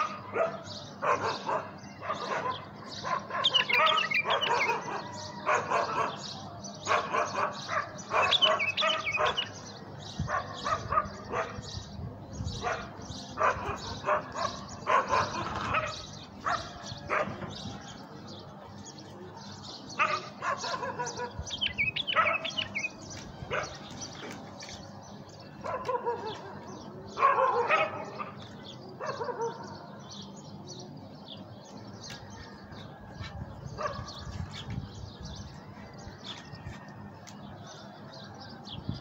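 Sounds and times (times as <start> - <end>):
bulbuls calling: 0.0 - 36.4.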